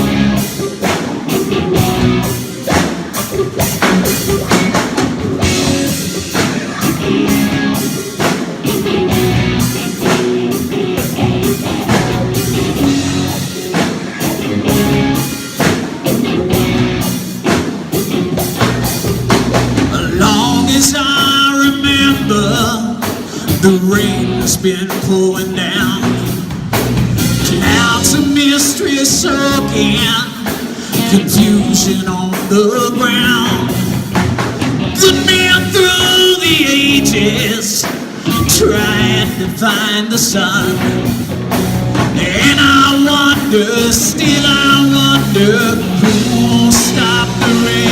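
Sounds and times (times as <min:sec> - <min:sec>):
drum kit beat: 0:00.0 - 0:47.9
rock guitar: 0:00.0 - 0:47.9.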